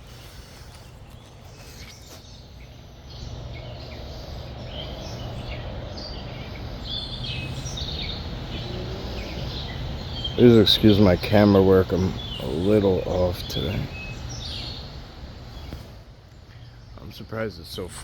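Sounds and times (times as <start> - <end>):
wild birds chirping: 0.0 - 18.0.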